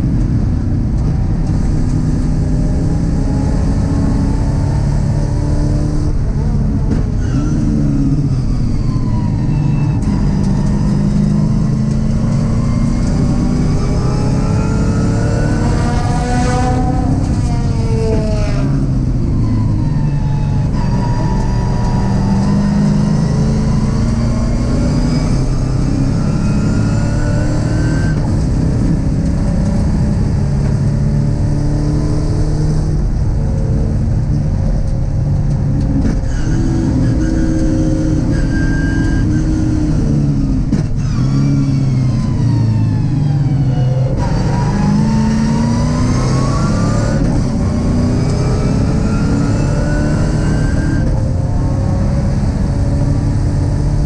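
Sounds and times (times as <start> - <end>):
race car engine from inside cabin: 0.0 - 54.0.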